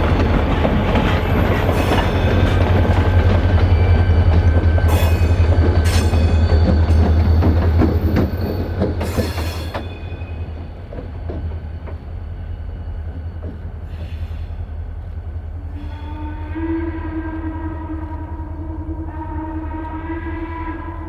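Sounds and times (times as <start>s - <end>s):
train rumbling by: 0.0s - 21.0s.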